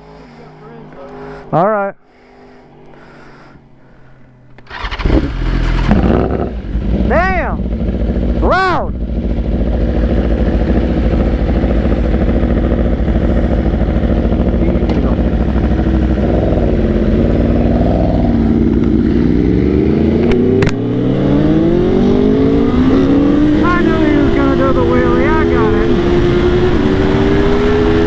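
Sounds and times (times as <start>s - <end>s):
motorcycle engines running: 0.0s - 28.0s
motorcycle revving and accelerating: 4.6s - 28.0s.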